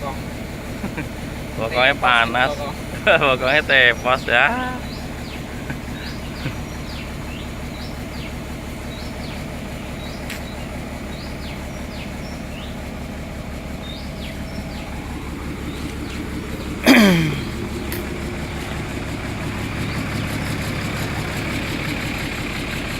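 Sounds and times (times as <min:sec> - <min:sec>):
diesel engine running: 0:00.0 - 0:22.9
bird chirping: 0:01.7 - 0:13.0, 0:13.8 - 0:19.0, 0:19.6 - 0:22.2.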